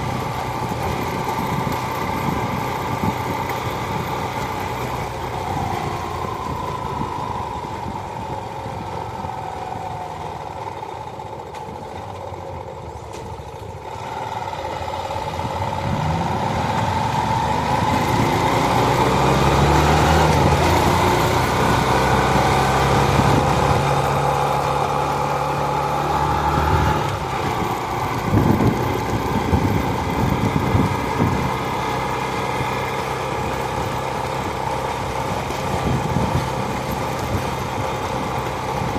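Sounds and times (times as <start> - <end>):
motorcycle engine running: 0.0 - 38.9
traffic and road noise: 0.0 - 38.9.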